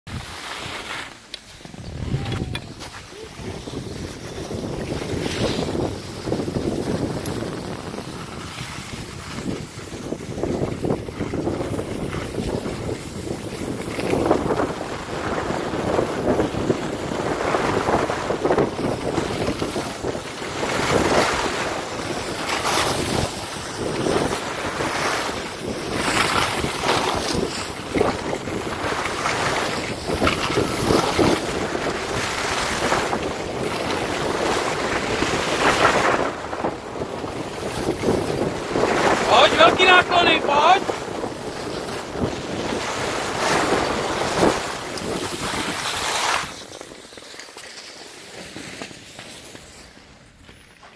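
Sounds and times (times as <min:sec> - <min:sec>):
skis scraping on snow: 0:00.1 - 0:50.9
wind rushing over microphone: 0:01.5 - 0:47.0.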